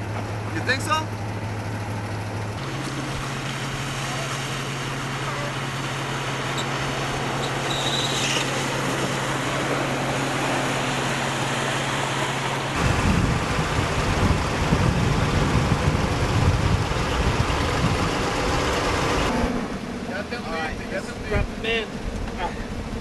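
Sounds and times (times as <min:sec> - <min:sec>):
vehicle driving on wet track: 0:00.0 - 0:20.0.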